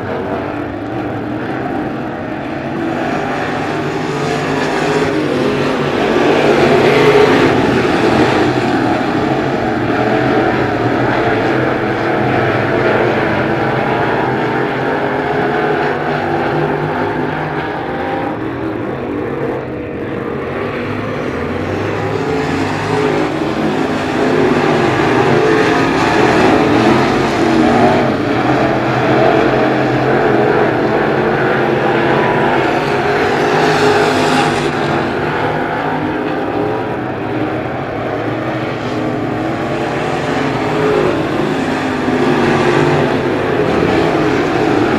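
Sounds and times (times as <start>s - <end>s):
race car engines roaring: 0.0s - 44.9s.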